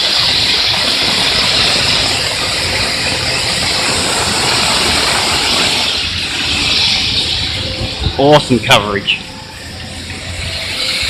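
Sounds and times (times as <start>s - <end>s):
low rumble: 0.2s - 11.0s
nozzles spraying with a hiss: 1.4s - 11.0s.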